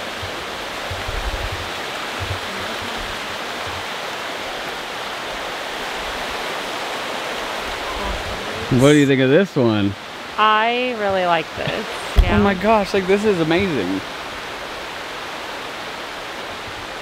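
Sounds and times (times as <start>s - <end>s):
stream rushing over rapids: 0.0s - 17.0s.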